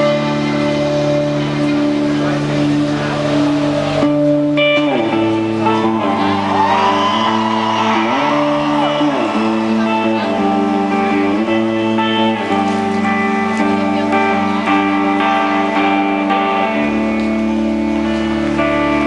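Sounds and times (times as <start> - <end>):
folk-rock band playing: 0.0 - 19.0.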